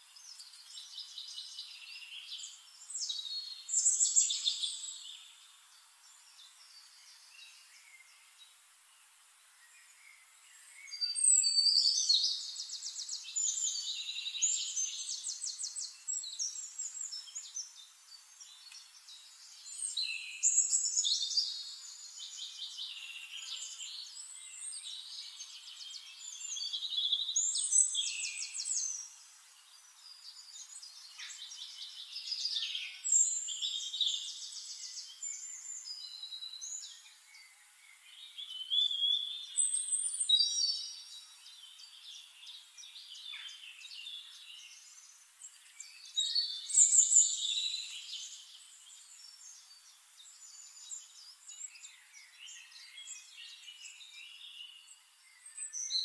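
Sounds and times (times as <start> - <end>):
songbird trills and whistles: 0.2 - 5.4, 9.7 - 29.2, 30.0 - 56.0.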